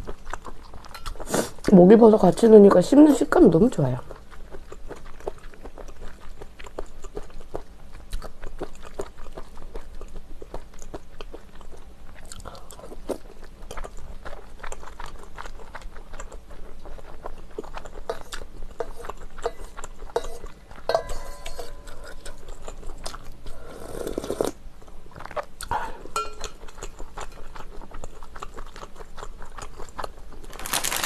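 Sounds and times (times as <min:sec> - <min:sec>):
close chewing of noodles: 0:00.0 - 0:31.0.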